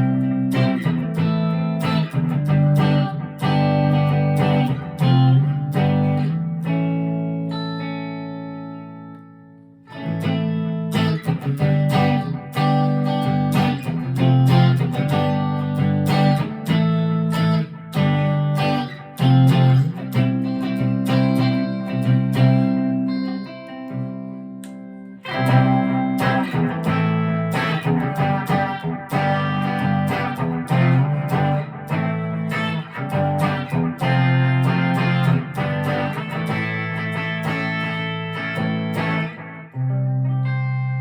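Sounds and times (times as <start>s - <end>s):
electric guitar through amp: 0.0s - 41.0s.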